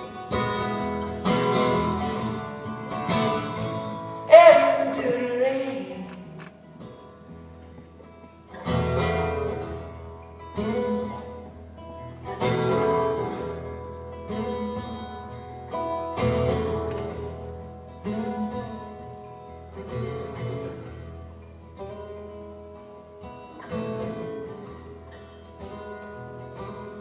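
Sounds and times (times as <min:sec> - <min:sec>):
guitar chords strummed slowly: 0:00.0 - 0:27.0.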